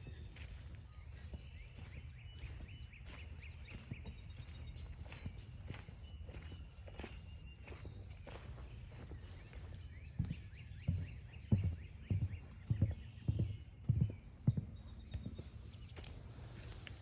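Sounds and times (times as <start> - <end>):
footsteps on forest trail: 0.0 - 17.0.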